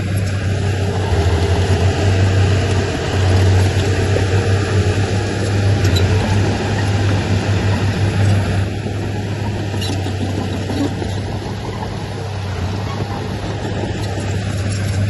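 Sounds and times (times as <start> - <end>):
diesel earthmoving machinery running: 0.0 - 15.0.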